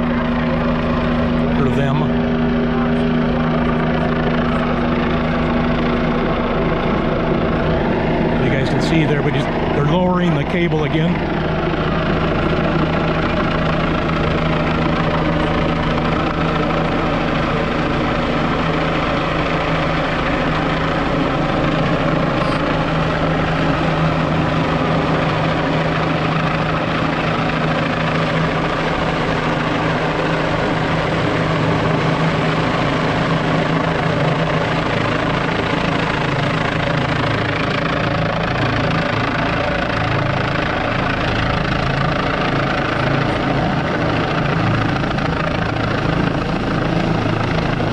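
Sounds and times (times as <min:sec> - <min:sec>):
helicopter hovering: 0:00.0 - 0:47.9.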